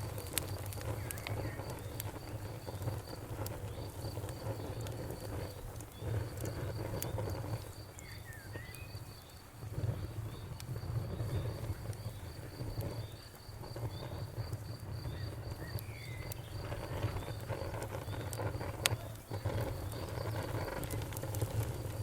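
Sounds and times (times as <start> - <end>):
campfire crackling and popping: 0.0 - 22.0
cricket chirping: 0.0 - 22.0.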